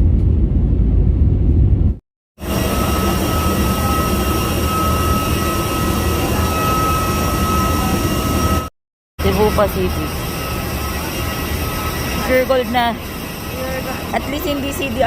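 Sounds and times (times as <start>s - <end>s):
aircraft engine drone: 0.0s - 15.0s
high engine whine: 0.0s - 15.0s.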